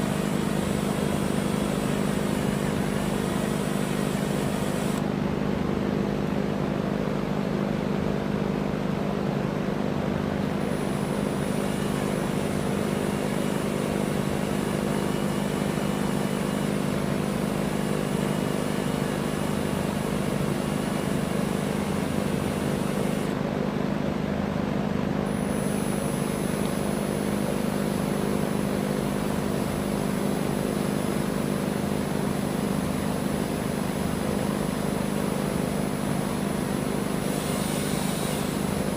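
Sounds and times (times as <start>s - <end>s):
electric drill drilling steel: 0.0s - 5.0s, 10.5s - 23.4s, 25.3s - 38.9s.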